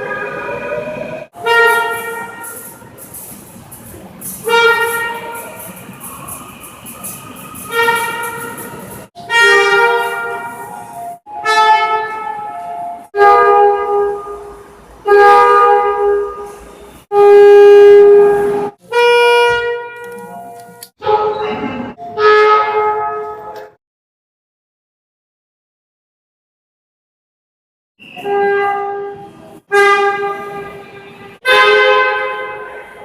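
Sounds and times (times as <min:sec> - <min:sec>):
train horn blasts: 0:00.0 - 0:03.0, 0:04.3 - 0:23.7, 0:28.1 - 0:33.0.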